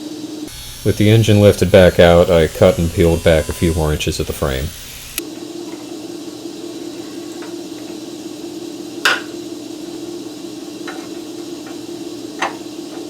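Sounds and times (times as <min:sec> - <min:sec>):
steady hum: 0:00.4 - 0:13.0.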